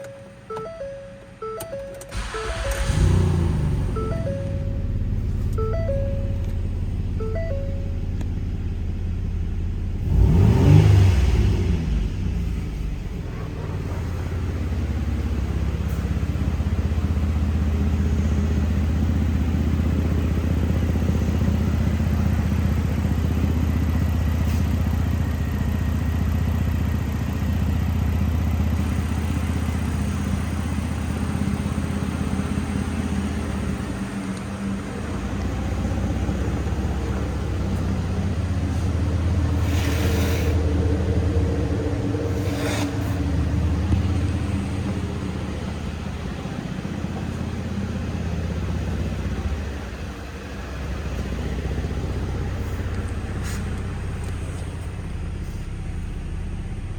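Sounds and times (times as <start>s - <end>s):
car engine running: 0.6s - 56.9s.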